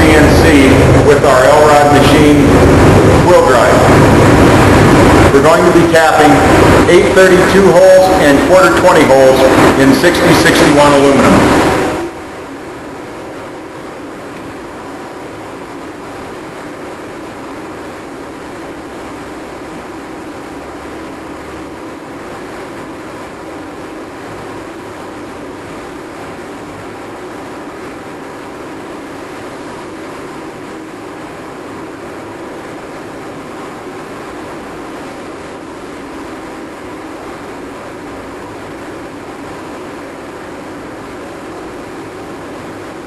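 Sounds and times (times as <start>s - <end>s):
milling machine whirring: 0.0s - 43.0s.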